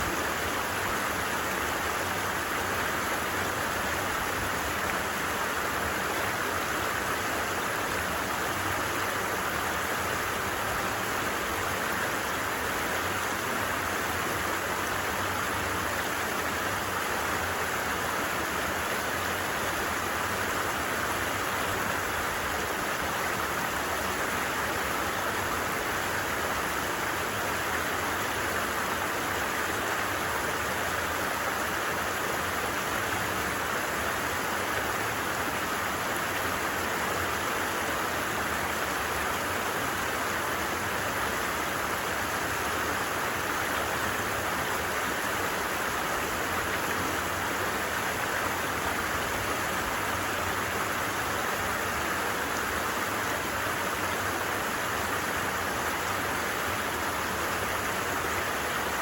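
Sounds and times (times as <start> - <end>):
stream rushing over its bed: 0.0 - 59.0.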